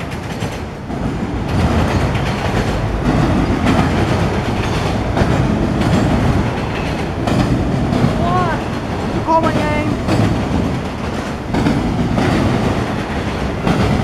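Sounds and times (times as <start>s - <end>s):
steel wheels rumbling on rails: 0.0s - 14.0s
wheels clicking over rail joints: 0.0s - 14.0s.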